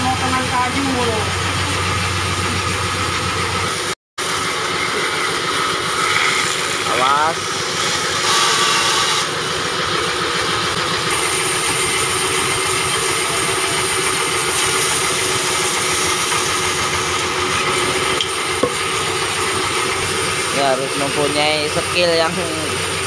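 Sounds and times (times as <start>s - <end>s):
band saw cutting through log: 0.0s - 23.0s.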